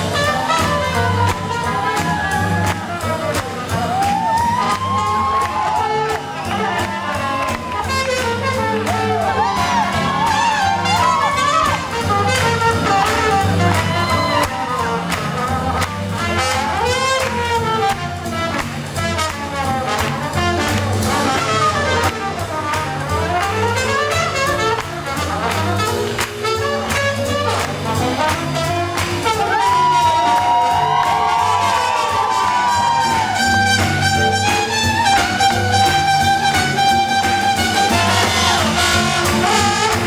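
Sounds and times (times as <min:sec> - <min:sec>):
bass and drum beat: 0:00.0 - 0:40.0
swing band playing: 0:00.0 - 0:40.0
trumpet and trombone: 0:00.0 - 0:40.0.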